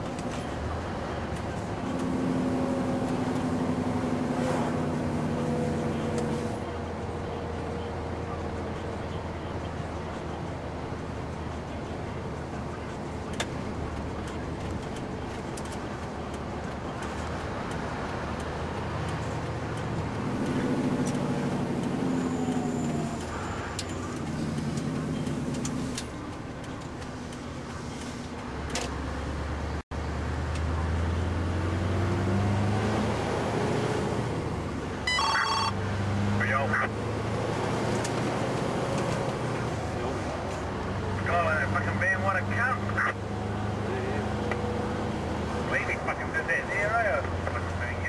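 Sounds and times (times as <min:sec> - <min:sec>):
truck diesel engine drone: 0:00.0 - 0:48.0.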